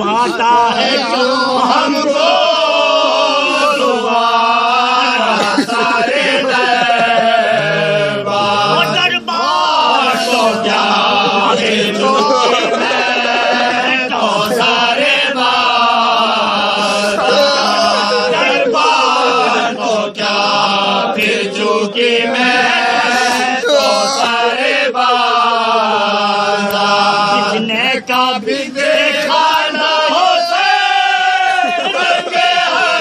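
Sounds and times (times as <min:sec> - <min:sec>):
man reading verses: 0:00.0 - 0:33.0
men chanting in unison: 0:00.0 - 0:33.0.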